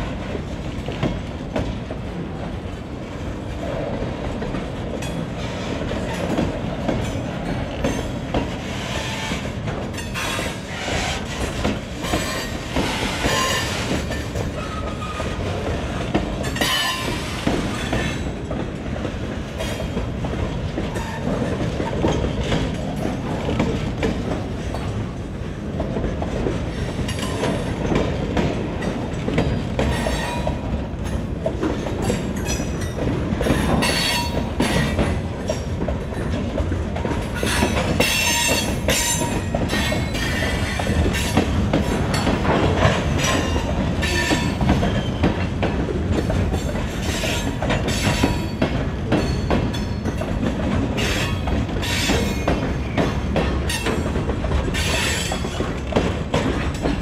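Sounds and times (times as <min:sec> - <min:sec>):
train wheels rumbling on rails: 0:00.0 - 0:57.0
wheels clacking over rail joints: 0:00.1 - 0:57.0.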